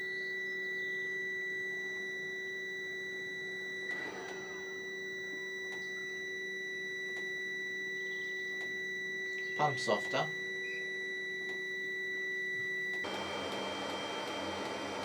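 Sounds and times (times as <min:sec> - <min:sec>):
high-pitched electronic whine: 0:00.0 - 0:15.0.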